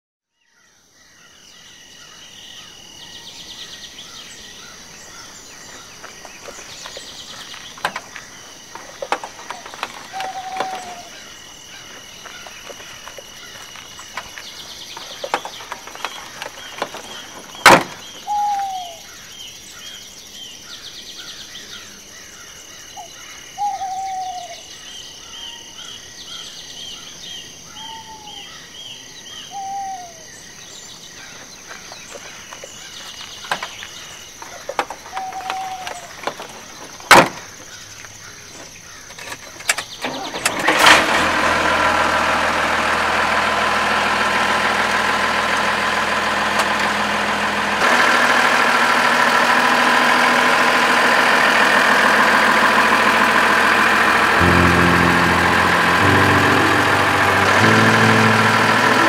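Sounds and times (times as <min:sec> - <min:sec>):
birds chirping: 0:00.6 - 0:40.8, 0:51.3 - 0:59.0.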